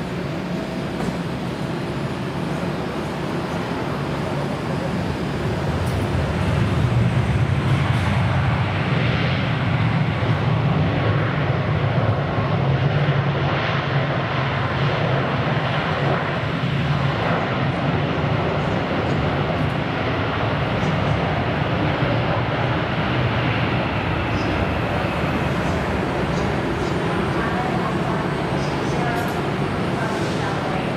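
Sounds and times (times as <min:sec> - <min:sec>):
jet engines rumbling: 0:00.0 - 0:30.9.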